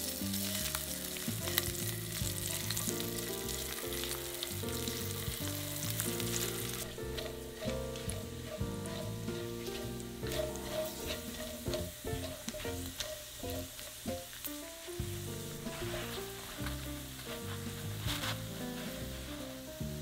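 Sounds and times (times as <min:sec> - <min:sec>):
meat sizzling in a frying pan: 0:00.0 - 0:20.0
soft background music: 0:00.0 - 0:20.0.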